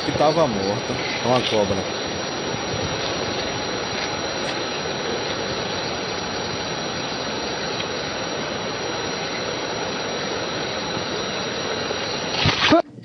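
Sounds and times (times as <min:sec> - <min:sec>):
water jet spraying onto leaves: 0:00.0 - 0:12.8.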